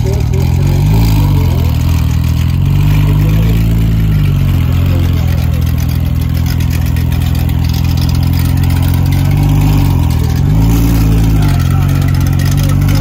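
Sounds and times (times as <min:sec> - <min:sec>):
race car engine at low revs: 0:00.0 - 0:13.0.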